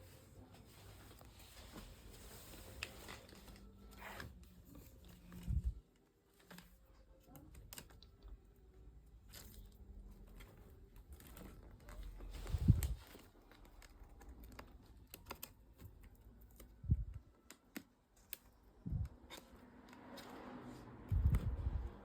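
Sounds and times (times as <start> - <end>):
faint clicks and rustles: 0.0 - 22.0.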